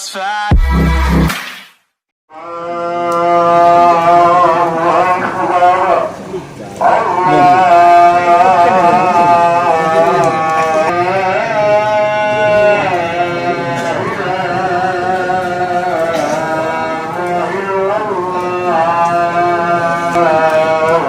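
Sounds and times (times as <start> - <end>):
person chanting melodically: 2.3 - 21.0.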